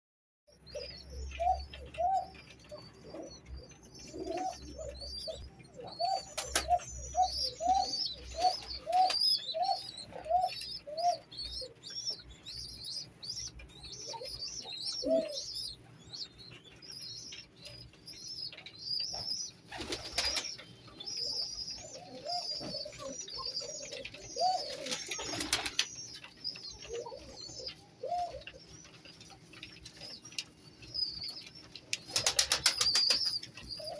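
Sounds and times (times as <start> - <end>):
pigeons cooing: 0.5 - 33.9.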